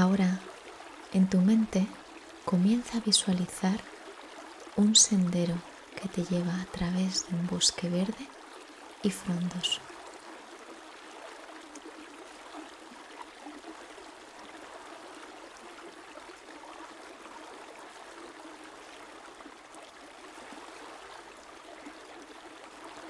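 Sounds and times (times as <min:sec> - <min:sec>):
river flowing: 0:00.0 - 0:23.0.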